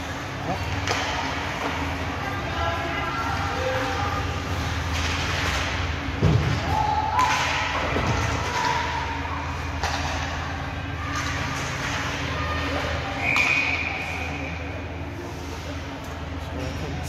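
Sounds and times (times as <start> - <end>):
low arena hum: 0.0 - 17.0.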